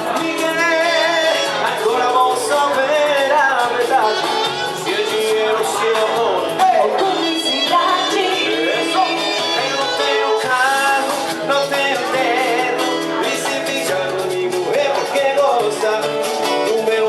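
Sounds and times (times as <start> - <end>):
guitar: 0.0 - 17.0
latin music duo: 0.0 - 17.0.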